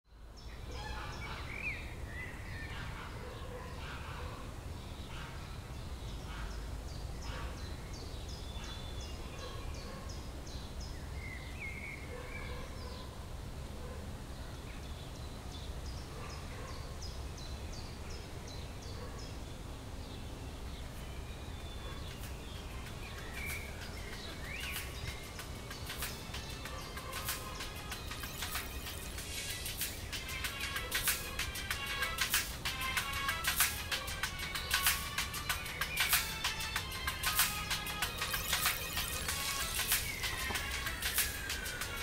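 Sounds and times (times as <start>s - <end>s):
songbird chirping: 0.1s - 42.0s.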